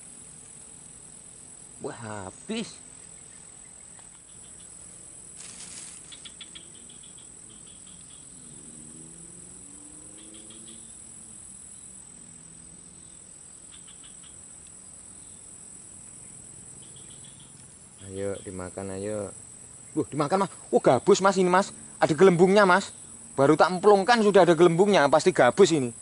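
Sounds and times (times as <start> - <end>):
insects droning: 0.0 - 26.0
rapid chirping trills: 1.8 - 26.0.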